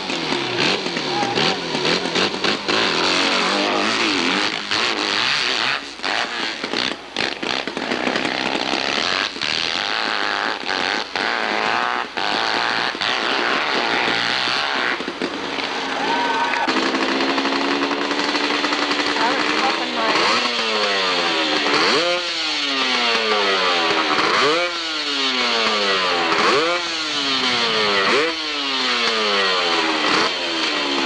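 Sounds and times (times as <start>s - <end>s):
motorcycle engine revving hard: 0.0s - 31.0s.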